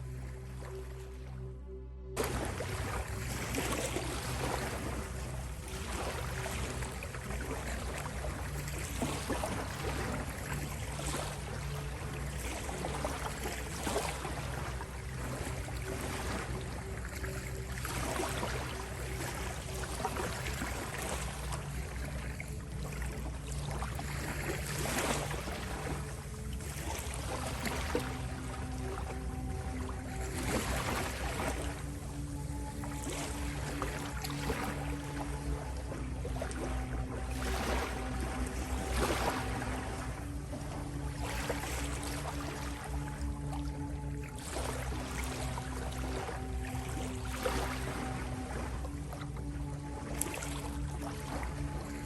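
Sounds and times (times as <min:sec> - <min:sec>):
low sustained drone: 0:00.0 - 0:52.0
ocean waves washing in: 0:02.2 - 0:52.0.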